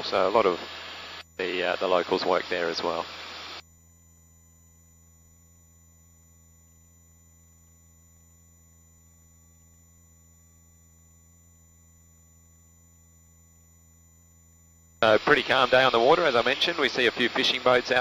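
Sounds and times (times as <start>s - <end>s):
thin steady tones: 0.1s - 18.0s.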